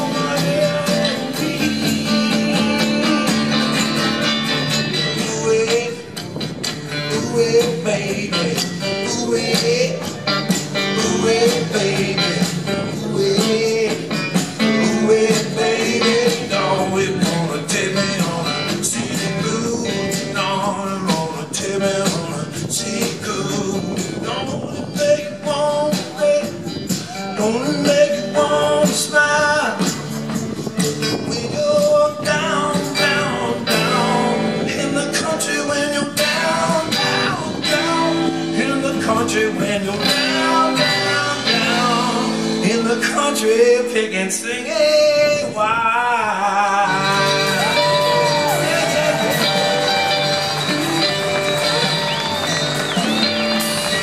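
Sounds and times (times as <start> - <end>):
live rock and roll band: 0.0 - 54.0
man singing: 0.0 - 54.0
strummed acoustic guitar: 0.0 - 54.0.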